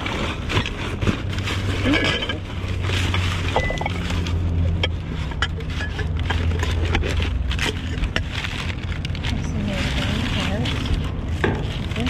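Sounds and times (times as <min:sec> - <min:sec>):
items clicking and knocking: 0:00.0 - 0:12.0.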